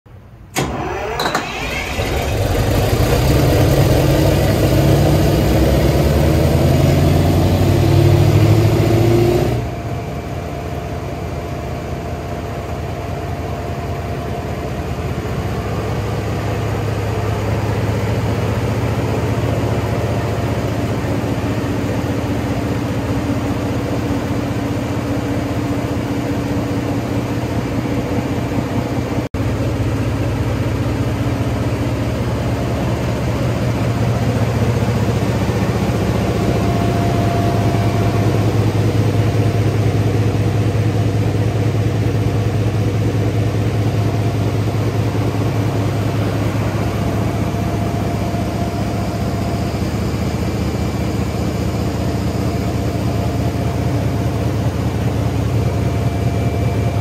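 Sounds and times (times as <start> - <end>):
diesel generator engine running: 0.1 - 57.0.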